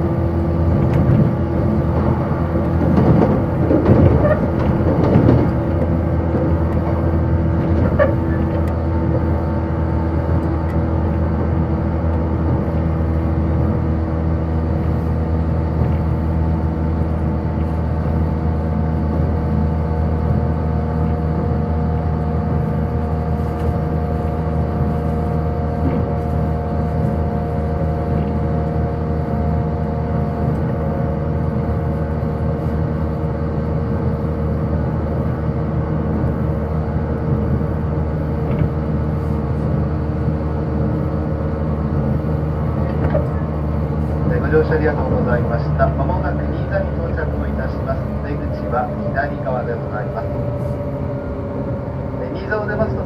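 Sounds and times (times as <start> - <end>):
train motor and gear hum: 0.0 - 53.0
train wheels rumbling on rail: 0.0 - 53.0.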